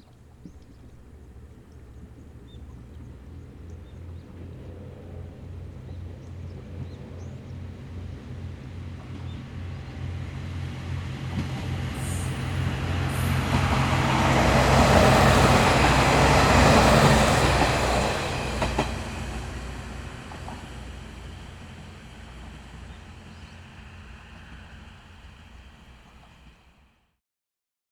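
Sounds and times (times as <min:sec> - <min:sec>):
wheel-on-rail rumble: 0:00.0 - 0:27.0.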